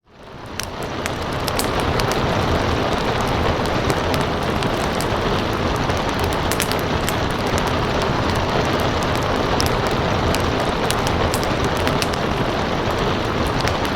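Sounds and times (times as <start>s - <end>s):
wood fire crackling: 0.0s - 13.9s
steady rain: 0.1s - 13.9s.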